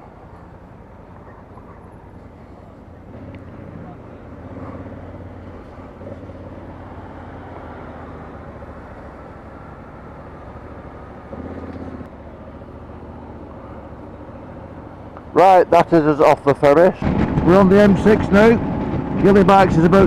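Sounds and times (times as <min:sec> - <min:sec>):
motorcycle engine running: 0:01.1 - 0:16.0, 0:17.0 - 0:20.0.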